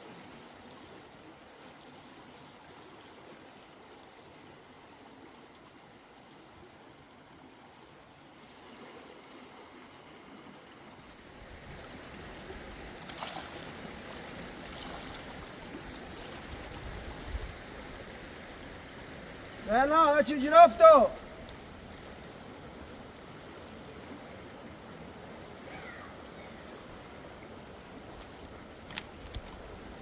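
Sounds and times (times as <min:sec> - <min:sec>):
stream running over rocks: 0:00.0 - 0:30.0.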